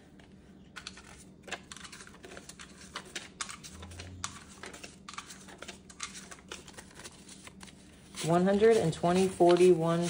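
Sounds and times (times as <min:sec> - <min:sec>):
banknotes rustling and flicking: 0:00.0 - 0:10.0.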